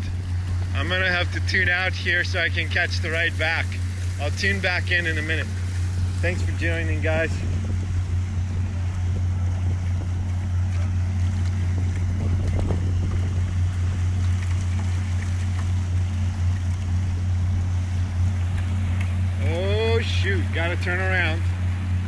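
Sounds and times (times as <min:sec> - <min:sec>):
low rumble: 0:00.0 - 0:22.0
water rushing and splashing: 0:00.0 - 0:22.0.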